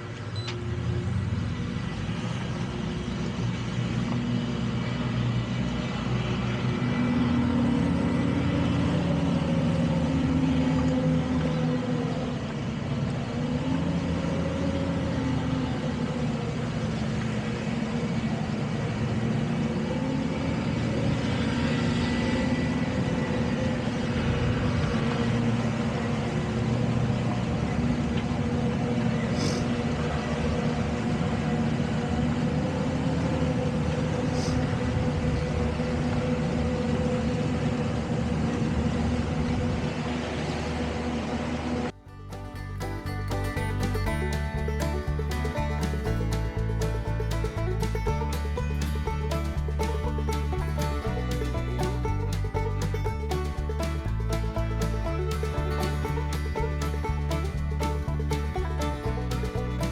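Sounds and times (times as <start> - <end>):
boat engine humming: 0.0 - 38.6, 39.2 - 59.9
wind: 0.0 - 59.9.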